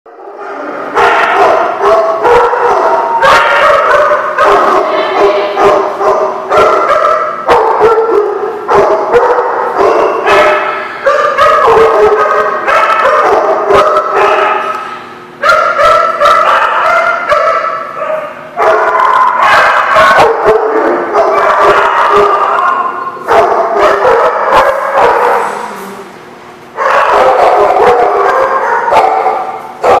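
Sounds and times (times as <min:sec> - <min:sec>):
dogs barking and howling: 0:00.1 - 0:25.6, 0:26.8 - 0:30.0.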